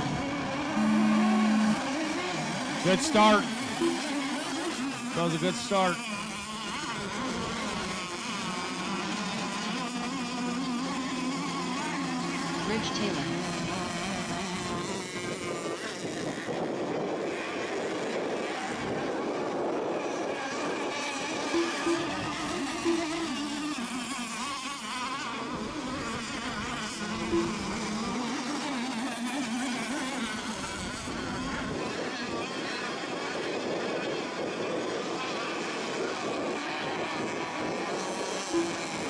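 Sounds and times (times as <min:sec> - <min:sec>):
small boat engines buzzing: 0:00.0 - 0:39.0.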